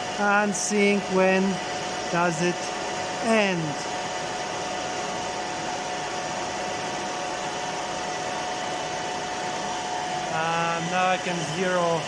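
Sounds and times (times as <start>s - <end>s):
milling machine whirring: 0.0s - 12.0s.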